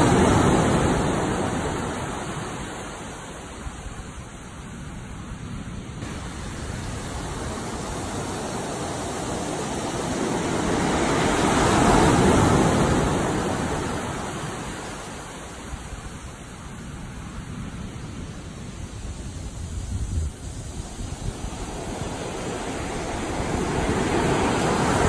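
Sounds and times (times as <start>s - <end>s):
ocean wave breaking: 0.0s - 3.7s, 6.0s - 25.0s.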